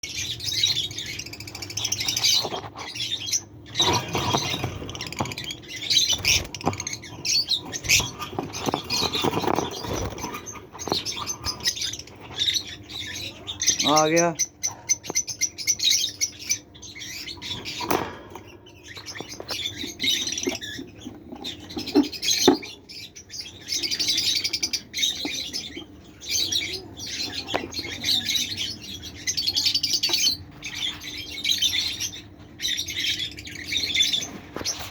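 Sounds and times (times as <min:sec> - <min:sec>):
lovebirds chattering chirps: 0:00.0 - 0:34.9.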